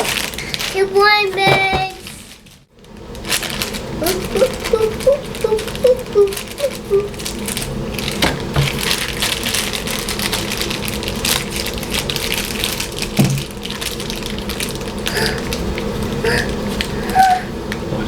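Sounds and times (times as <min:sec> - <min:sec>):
packaging tearing open: 0:00.0 - 0:00.8, 0:02.0 - 0:17.4
plastic packaging crinkling: 0:00.0 - 0:17.9.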